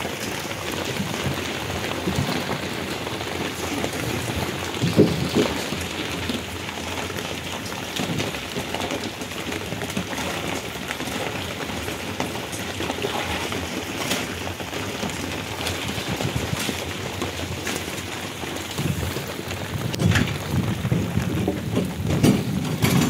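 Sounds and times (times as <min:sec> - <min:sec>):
raindrops ticking: 0:00.0 - 0:23.0
steady rain: 0:00.0 - 0:23.0.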